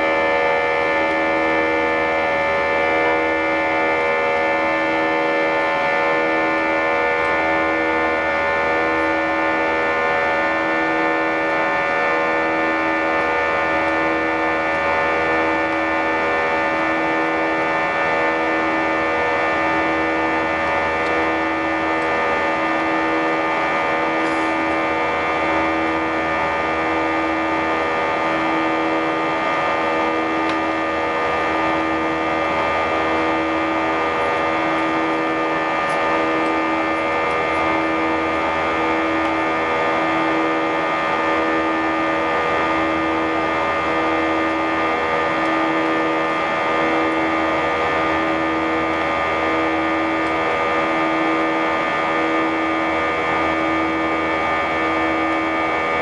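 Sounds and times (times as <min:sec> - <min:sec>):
aircraft cabin engine drone: 0:00.0 - 0:56.0.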